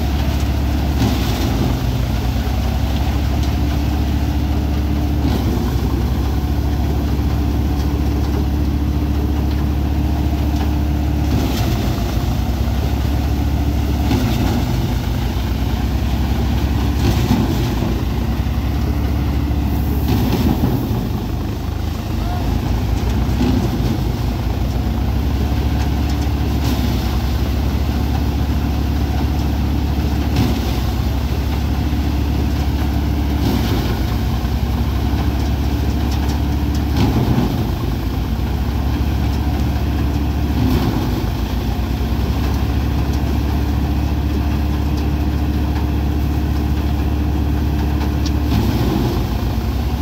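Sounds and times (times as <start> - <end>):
thresher engine drone: 0.0 - 50.0
threshing drum spinning: 0.0 - 50.0.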